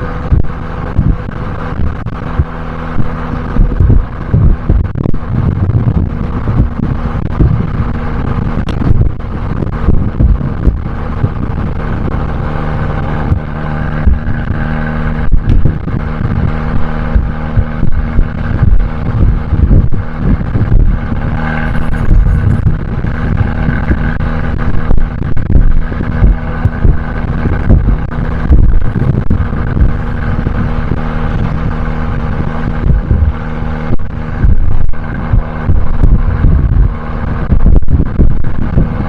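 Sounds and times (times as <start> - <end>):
car engine and exhaust: 0.0 - 39.0
low thumps: 0.0 - 39.0.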